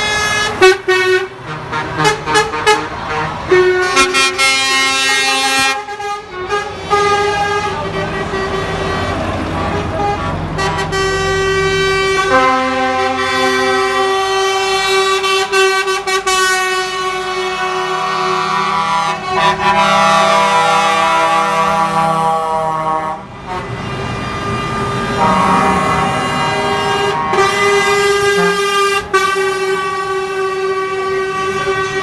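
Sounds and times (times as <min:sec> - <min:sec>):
truck air horns blasting: 0:00.0 - 0:32.0.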